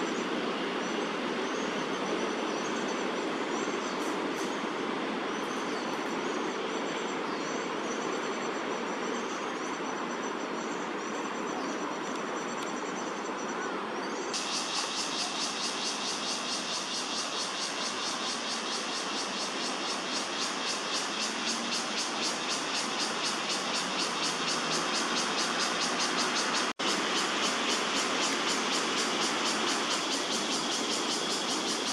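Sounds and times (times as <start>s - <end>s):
city traffic rumble: 0.0s - 31.9s.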